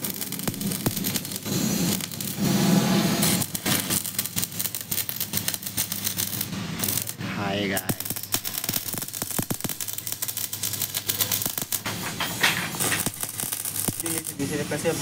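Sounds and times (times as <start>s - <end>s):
welding arc crackling and sizzling: 0.0s - 15.0s.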